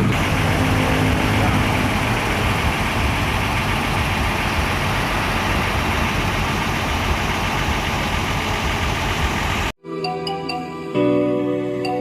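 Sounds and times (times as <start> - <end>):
bus diesel engine idling: 0.0 - 9.8.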